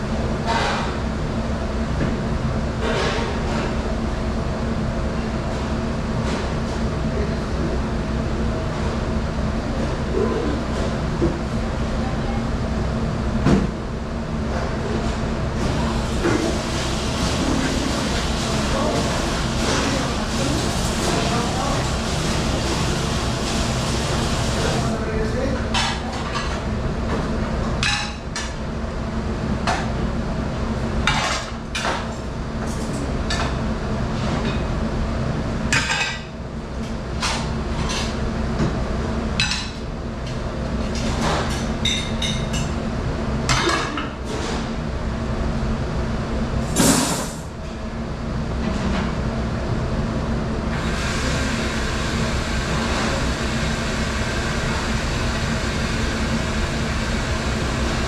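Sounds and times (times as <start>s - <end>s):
dish machine humming: 0.0s - 58.0s.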